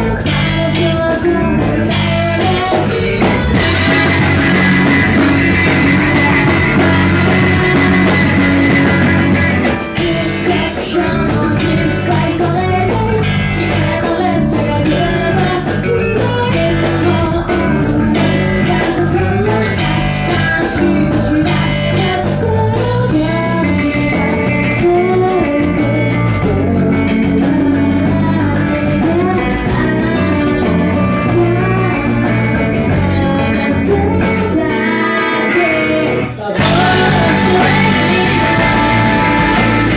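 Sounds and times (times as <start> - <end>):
drum kit: 0.0 - 39.9
electric bass: 0.0 - 39.9
electric guitars: 0.0 - 39.9
woman singing: 0.0 - 39.9.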